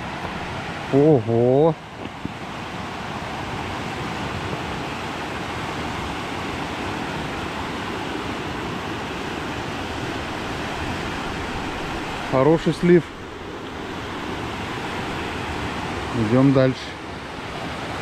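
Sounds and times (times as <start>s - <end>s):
fast water rushing: 0.0s - 18.0s.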